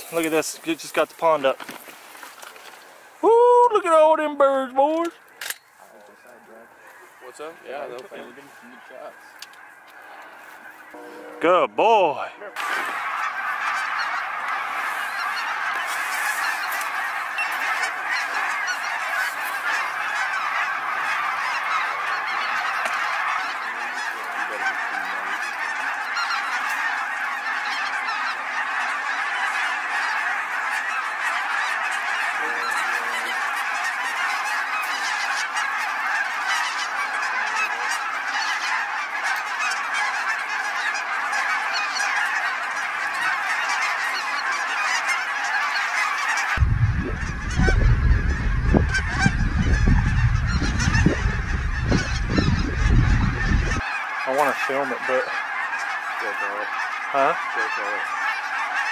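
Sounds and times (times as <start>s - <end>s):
geese honking: 0.0s - 58.9s.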